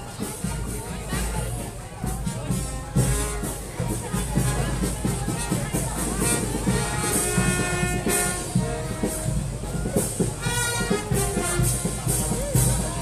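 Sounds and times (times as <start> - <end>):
brass band music: 0.0 - 13.0.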